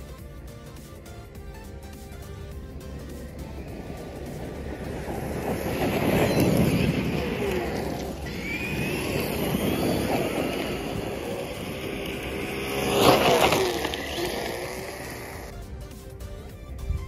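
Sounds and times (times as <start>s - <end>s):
rc truck motor whine: 0.0s - 15.6s.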